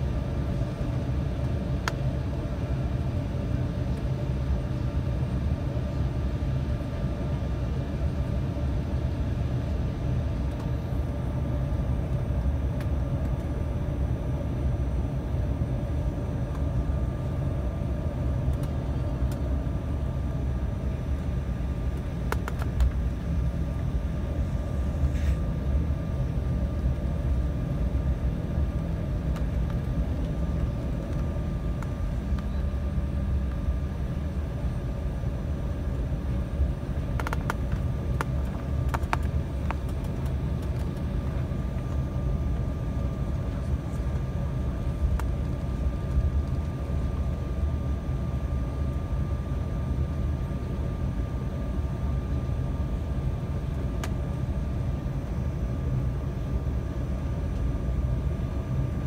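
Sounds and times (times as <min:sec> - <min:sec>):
airliner cabin engine rumble: 0:00.0 - 0:59.0
faint steady whine: 0:00.0 - 0:59.0.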